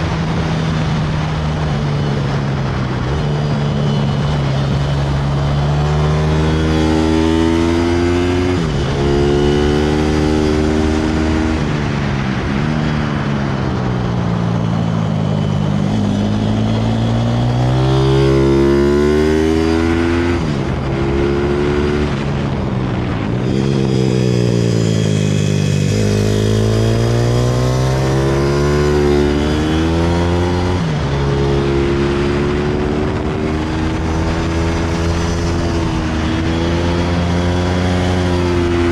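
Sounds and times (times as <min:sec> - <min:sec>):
pit bike engine accelerating: 0:00.0 - 0:13.8, 0:14.4 - 0:38.9
steady low drone: 0:00.0 - 0:38.9.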